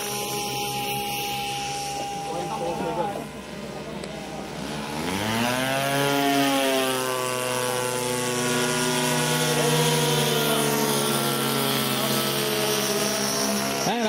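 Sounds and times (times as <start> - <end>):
model airplane engine at high revs: 0.0 - 14.0.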